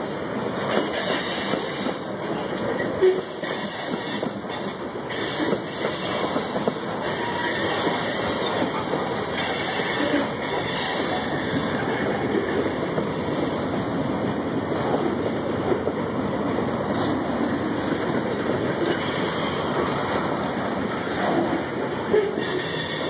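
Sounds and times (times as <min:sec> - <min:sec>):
steel train wheels on rails: 0:00.0 - 0:23.0.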